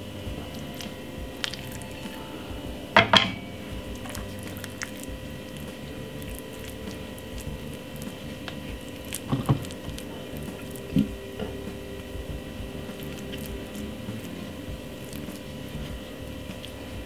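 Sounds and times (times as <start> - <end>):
spoon squishing mashed potato: 0.1 - 2.6, 3.6 - 17.0.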